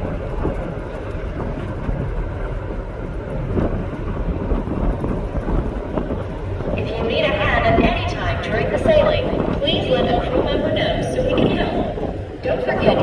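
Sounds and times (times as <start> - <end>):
steady low rumble: 0.0 - 13.0
wind blowing across microphone: 0.0 - 13.0.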